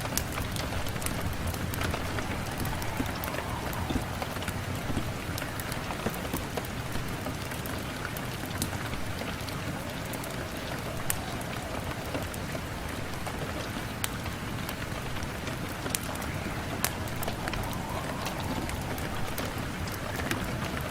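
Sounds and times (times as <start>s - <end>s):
rain on a window: 0.0s - 20.9s
raindrops tapping: 0.0s - 20.9s.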